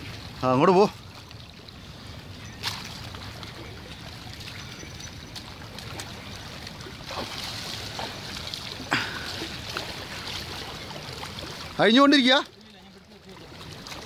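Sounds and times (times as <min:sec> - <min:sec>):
foot splashing in shallow water: 0:00.0 - 0:14.0
water lapping around concrete blocks: 0:00.0 - 0:14.0.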